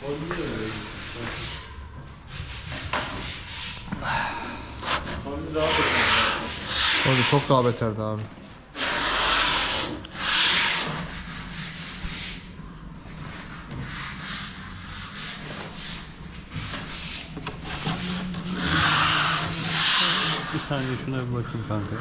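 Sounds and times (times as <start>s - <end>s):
sandpaper rubbing on wood: 0.0s - 3.8s, 4.8s - 7.8s, 8.8s - 12.5s, 13.2s - 22.0s.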